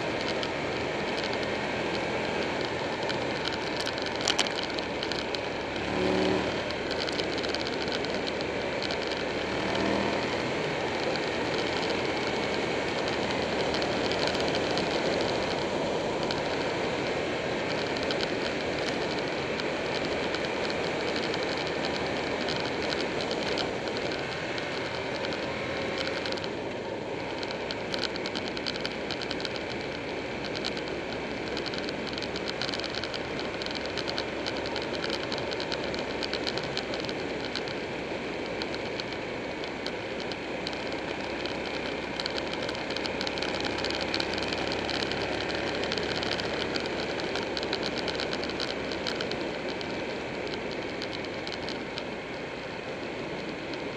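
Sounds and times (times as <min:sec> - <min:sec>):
fine crackle or rattle: 0:00.0 - 0:53.9
motorcycle engine: 0:00.0 - 0:53.9
wind and road noise: 0:00.0 - 0:53.9.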